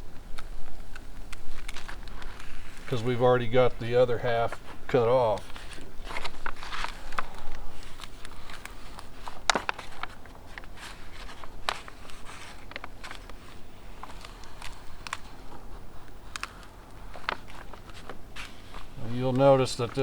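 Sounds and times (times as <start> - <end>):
paper rustling and crackling: 0.0 - 20.0
backing paper peeling off: 0.3 - 20.0.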